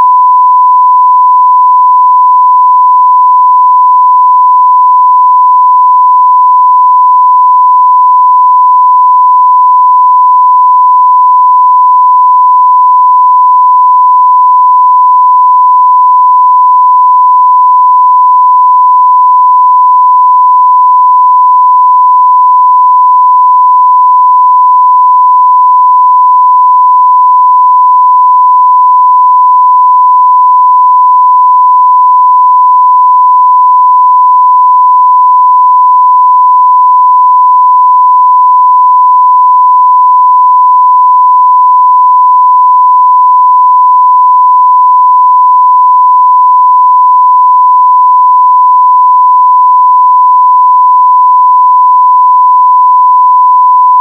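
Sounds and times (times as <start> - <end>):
sine-wave test tone: 0.0 - 54.0.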